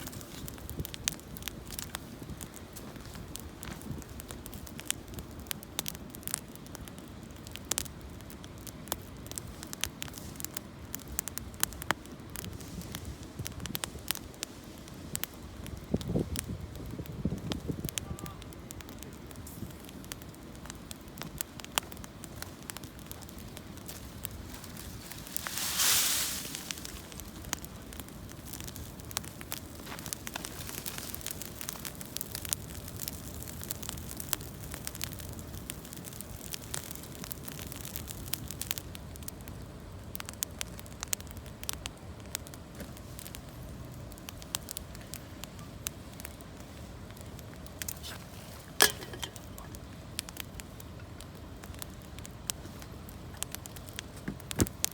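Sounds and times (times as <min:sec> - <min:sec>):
campfire crackling and popping: 0:00.0 - 0:54.9
fire hissing rush: 0:00.0 - 0:54.9.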